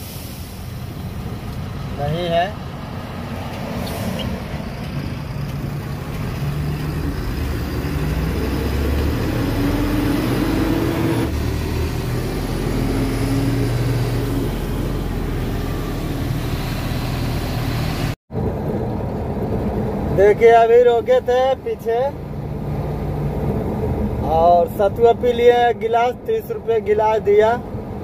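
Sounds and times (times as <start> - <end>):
road noise: 0.0 - 28.0
truck diesel engine: 0.0 - 28.0.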